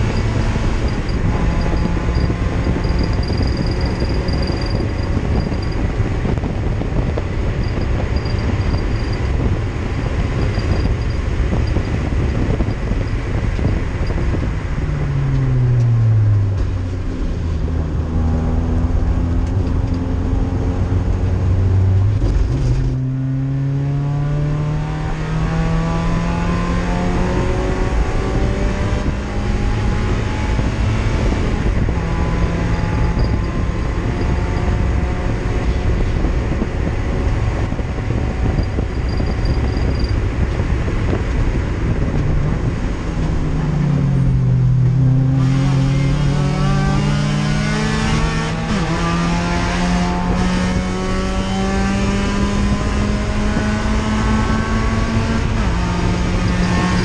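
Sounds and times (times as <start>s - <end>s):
race car engine revving: 0.0s - 57.0s
wind and tyre noise: 0.0s - 57.0s.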